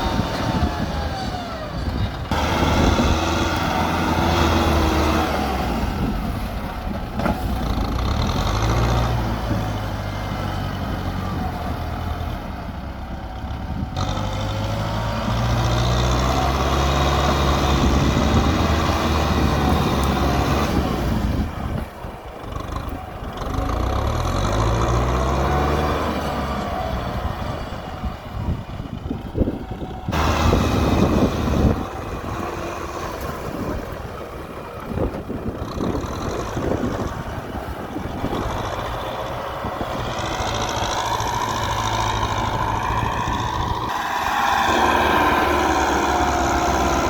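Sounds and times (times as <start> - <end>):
tractor diesel engine working: 0.0 - 47.0.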